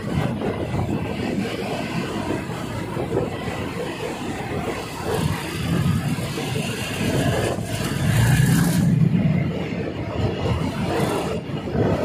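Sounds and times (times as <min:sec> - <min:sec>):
diesel train rumbling on rails: 0:00.0 - 0:12.0
rush of air: 0:00.0 - 0:12.0.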